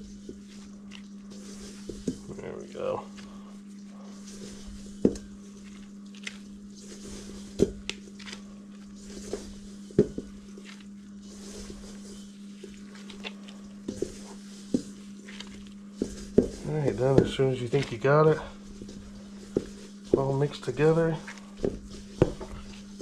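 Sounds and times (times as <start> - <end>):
dough squishing and rustling: 0.0 - 23.0
steady low hum: 0.0 - 23.0.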